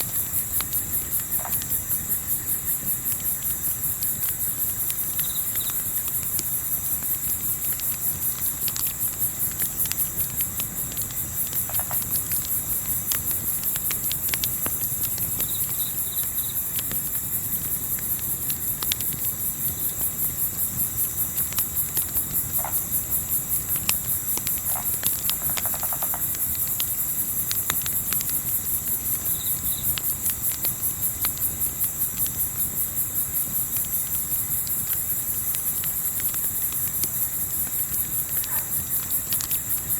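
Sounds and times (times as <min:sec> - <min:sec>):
campfire popping and crackling: 0:00.0 - 0:39.9
night insects trilling: 0:00.0 - 0:39.9.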